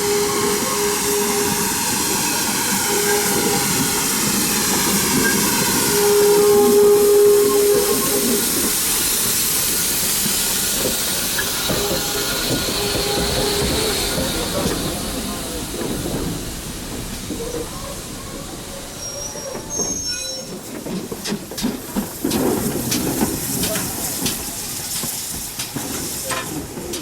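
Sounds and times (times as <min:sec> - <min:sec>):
steam locomotive hiss: 0:00.0 - 0:27.0.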